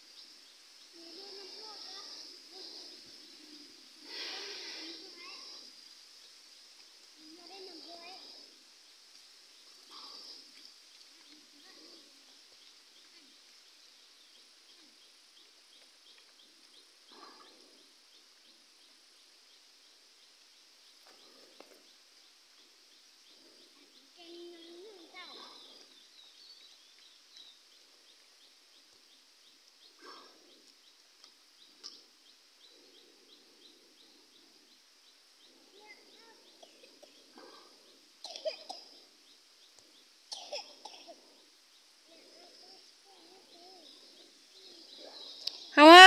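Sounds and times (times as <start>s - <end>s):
rustle: 0.0s - 46.0s.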